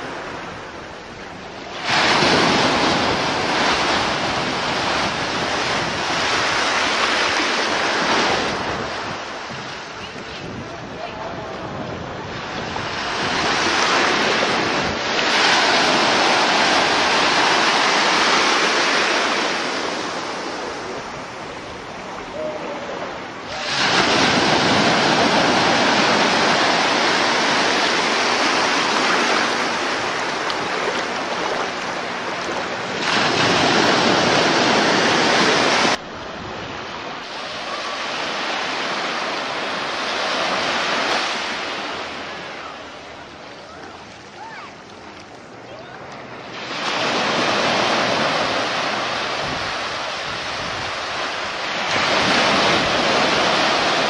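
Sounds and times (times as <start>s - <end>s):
surf breaking on beach: 0.0s - 54.0s.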